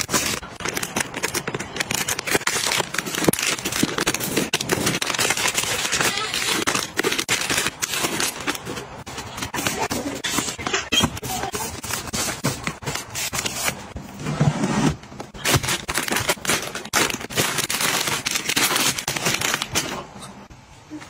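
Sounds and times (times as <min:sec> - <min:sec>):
items being handled and unpacked: 0:00.0 - 0:21.0.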